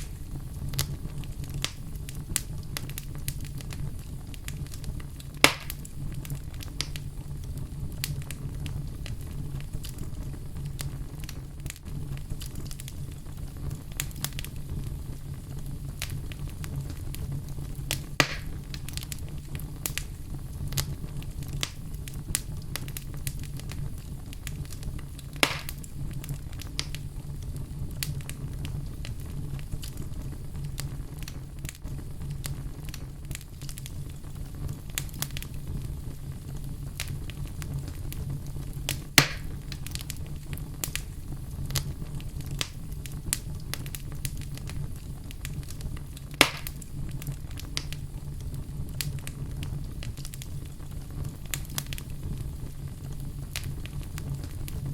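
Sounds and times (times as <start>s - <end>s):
sharp fire pops: 0.0s - 54.9s
wood fire crackling: 0.0s - 54.9s.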